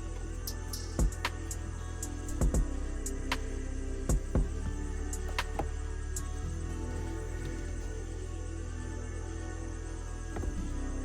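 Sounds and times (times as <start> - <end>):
music with steady bass: 0.0 - 11.0.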